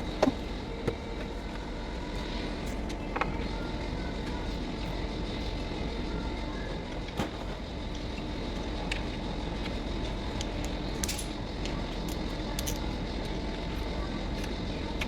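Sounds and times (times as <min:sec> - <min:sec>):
steady background rumble: 0:00.0 - 0:15.0.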